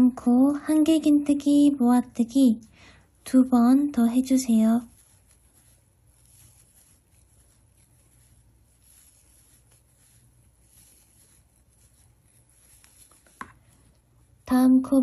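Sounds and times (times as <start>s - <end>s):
low steady hum: 0.0s - 15.0s
yarn rustling with crochet hook: 0.0s - 15.0s.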